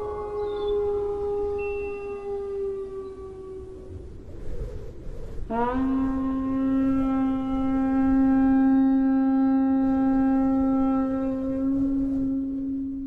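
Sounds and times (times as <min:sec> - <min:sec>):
long held horn-like note: 0:00.0 - 0:04.2, 0:05.4 - 0:13.0.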